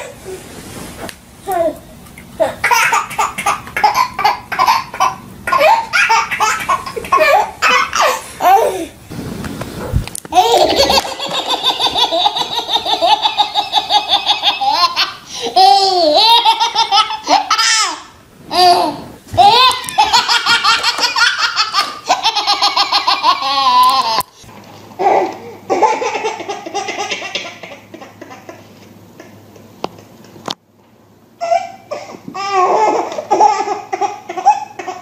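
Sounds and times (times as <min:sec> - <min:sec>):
babies laughing: 0:02.4 - 0:08.9, 0:10.3 - 0:24.3, 0:25.0 - 0:29.4, 0:31.4 - 0:35.0.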